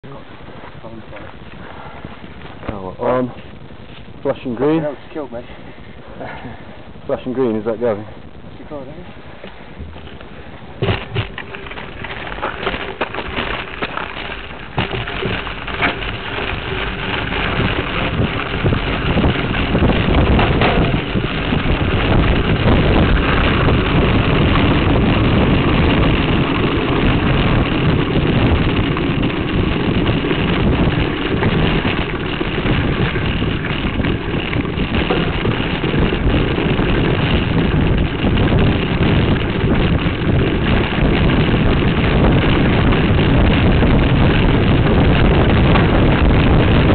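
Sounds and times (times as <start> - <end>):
bike rattling vibration: 0.0 - 46.9
wind buffeting: 0.0 - 46.9.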